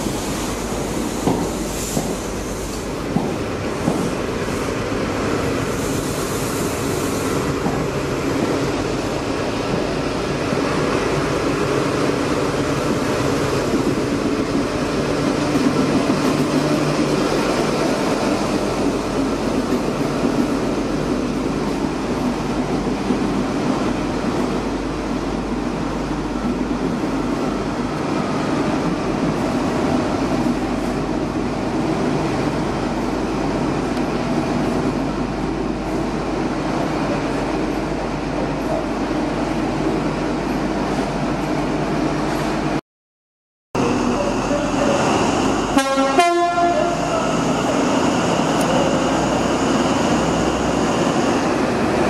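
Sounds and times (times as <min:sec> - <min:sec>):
diesel locomotive engine: 0:00.0 - 0:42.8, 0:43.8 - 0:52.0
train coaches rumbling by: 0:00.0 - 0:42.8, 0:43.8 - 0:52.0.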